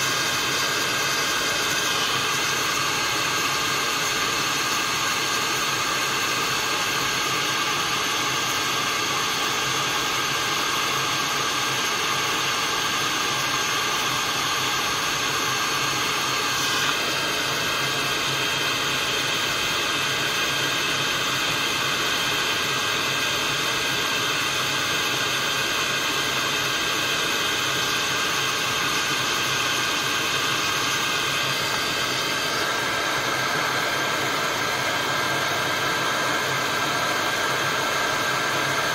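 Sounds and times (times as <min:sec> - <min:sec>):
hot-air dryer blowing: 0:00.0 - 0:38.9.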